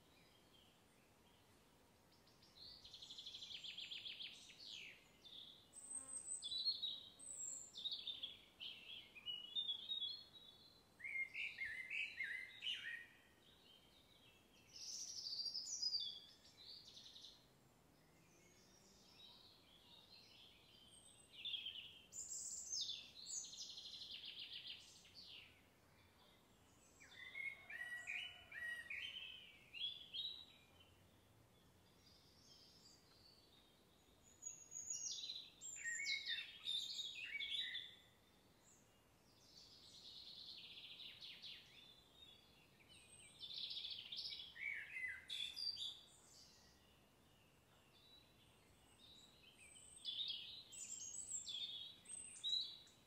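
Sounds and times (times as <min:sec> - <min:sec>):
faint outdoor background noise: 0:00.0 - 0:53.0
songbirds chirping and trilling: 0:00.0 - 0:53.0.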